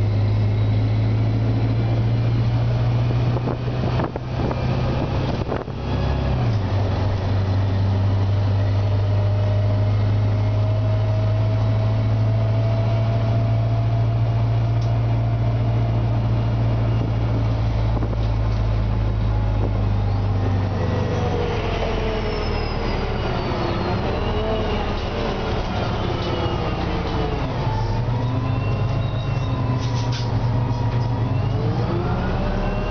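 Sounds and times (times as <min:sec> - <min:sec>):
bus engine drone: 0:00.0 - 0:32.9
transmission whine: 0:00.0 - 0:32.9.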